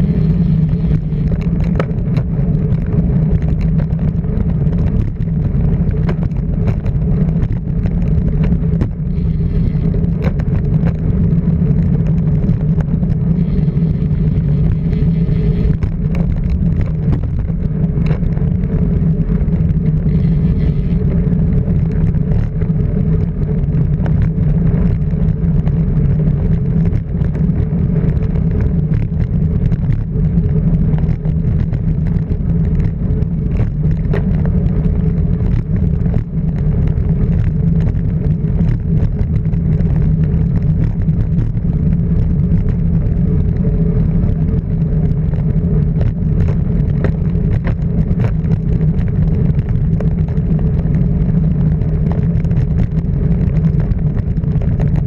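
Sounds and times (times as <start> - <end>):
car engine droning: 0.0 - 55.0
road noise: 0.0 - 55.0.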